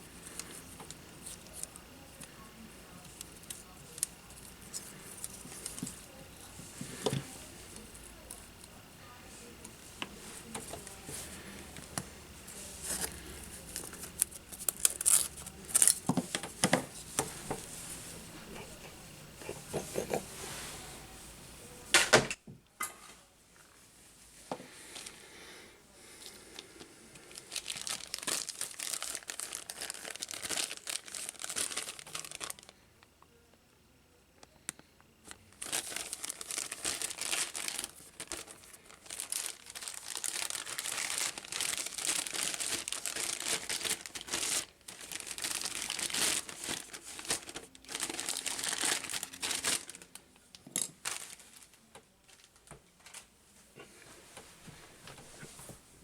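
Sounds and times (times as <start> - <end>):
material crinkling and rustling: 0.1 - 19.0, 27.2 - 32.7, 35.2 - 56.0.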